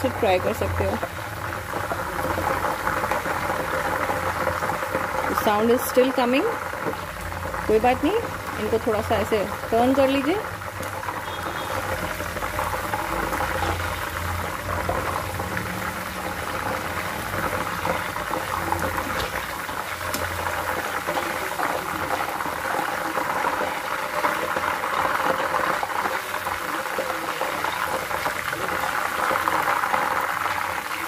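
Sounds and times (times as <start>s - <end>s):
chips sizzling in hot oil: 0.0s - 31.0s.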